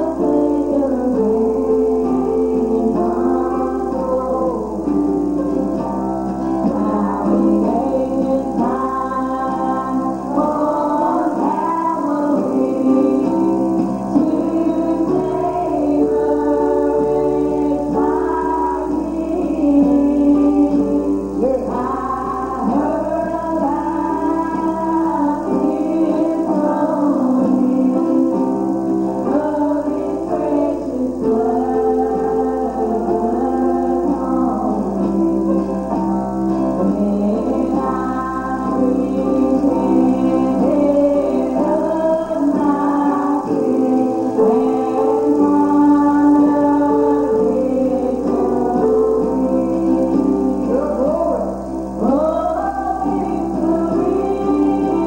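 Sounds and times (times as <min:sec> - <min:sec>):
gospel singing with instruments: 0:00.0 - 0:55.0
guitar or piano accompaniment: 0:00.0 - 0:55.0.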